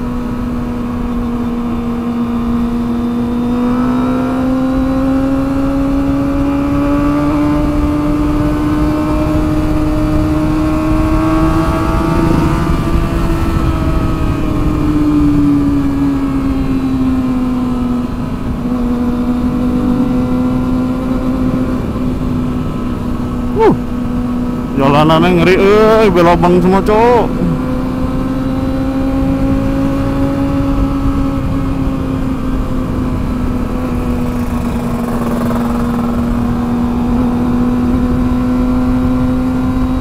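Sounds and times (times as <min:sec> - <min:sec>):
motorcycle engine at high revs: 0:00.0 - 0:40.0.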